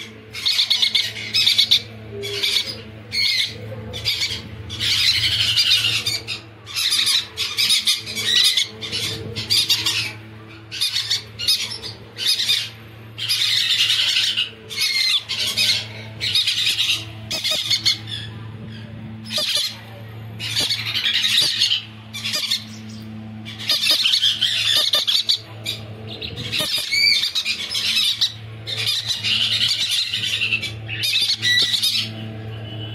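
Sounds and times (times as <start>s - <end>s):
conures squawking: 0.0s - 32.2s.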